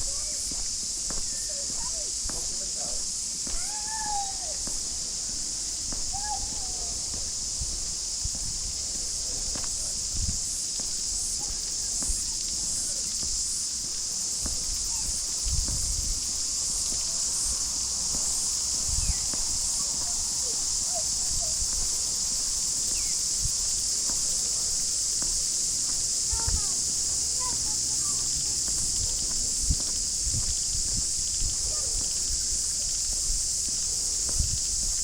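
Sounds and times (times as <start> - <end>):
cicadas buzzing: 0.0 - 35.0
soft footsteps on garden path: 0.0 - 35.0.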